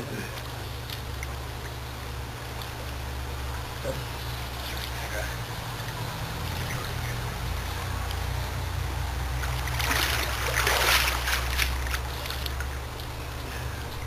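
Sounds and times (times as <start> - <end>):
low hum: 0.0 - 14.0
pool water splashing: 0.0 - 14.0.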